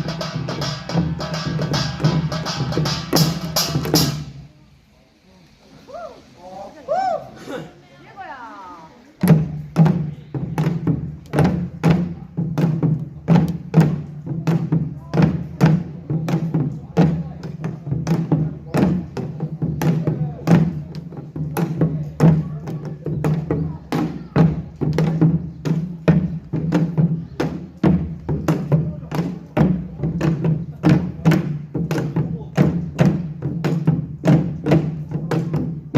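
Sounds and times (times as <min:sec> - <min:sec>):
drums in a driving rhythm: 0:00.0 - 0:04.6, 0:09.2 - 0:35.9.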